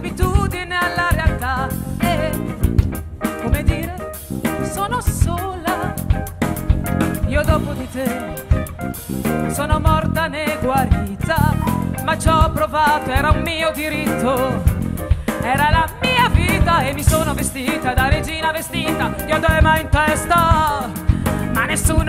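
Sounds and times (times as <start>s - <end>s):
woman singing into microphone: 0.0s - 2.6s, 3.3s - 6.3s, 7.2s - 8.6s, 9.4s - 22.0s
jazz-pop band with drums: 0.0s - 22.0s.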